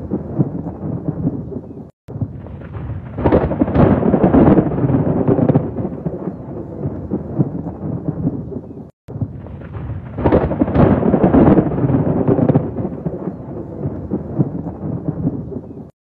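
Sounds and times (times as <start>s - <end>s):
steady rain: 0.0s - 15.9s
thunder rumbling: 0.0s - 15.9s.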